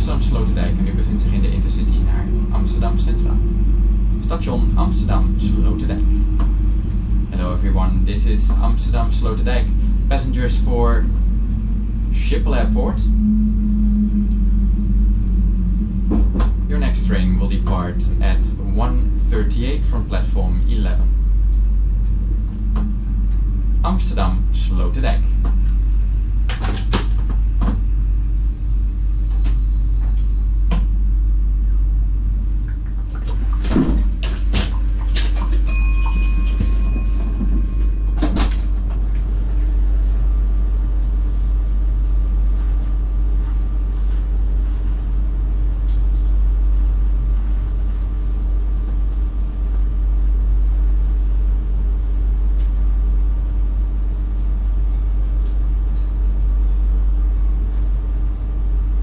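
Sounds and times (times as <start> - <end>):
train cab hum: 0.0 - 59.0.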